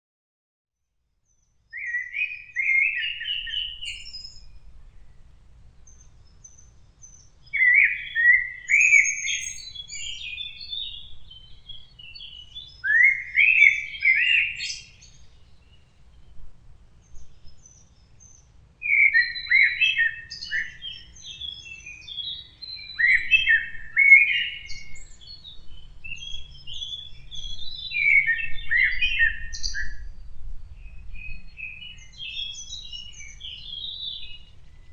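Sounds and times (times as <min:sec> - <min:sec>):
songbird singing: 0:01.2 - 0:34.9.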